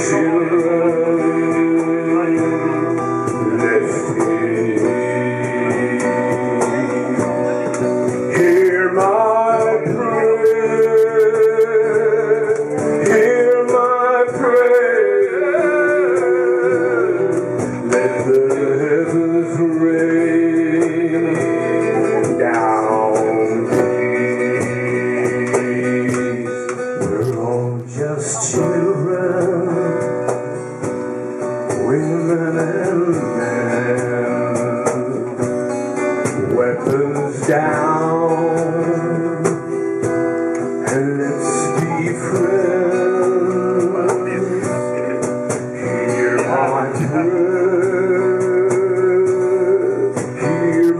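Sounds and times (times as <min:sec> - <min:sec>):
acoustic guitars playing: 0:00.0 - 0:50.9.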